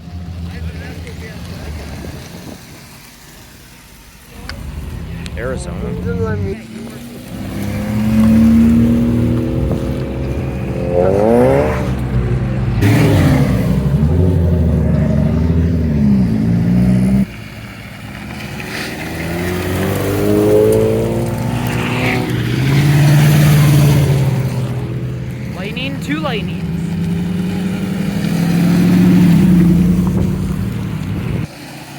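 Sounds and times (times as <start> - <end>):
car engines revving: 0.0 - 31.9.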